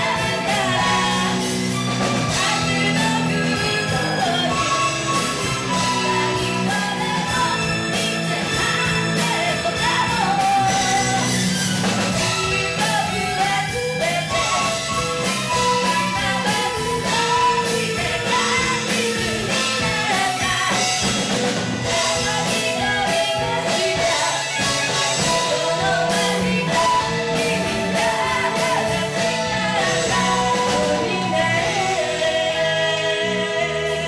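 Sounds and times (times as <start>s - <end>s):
rock band playing: 0.0s - 34.0s
woman singing: 0.0s - 34.0s.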